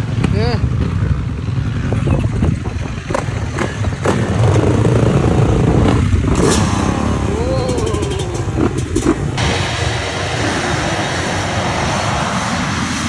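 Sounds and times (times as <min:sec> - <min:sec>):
motocross bikes revving at full throttle: 0:00.0 - 0:13.0.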